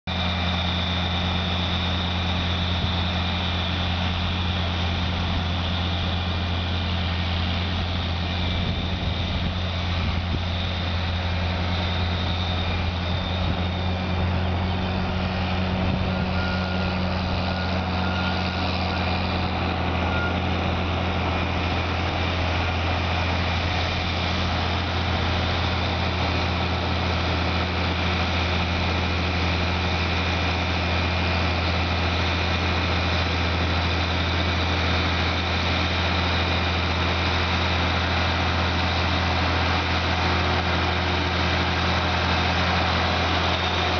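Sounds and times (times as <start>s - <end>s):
tractor engine droning: 0.0s - 43.9s.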